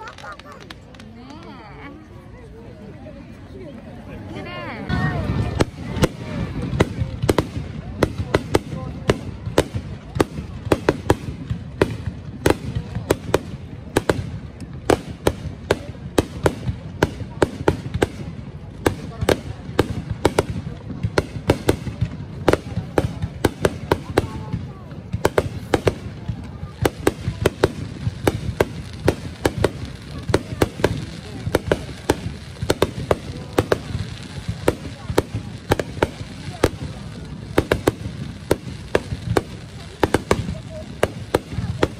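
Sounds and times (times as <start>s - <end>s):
fireworks bangs: 0.0s - 1.6s, 4.8s - 41.9s.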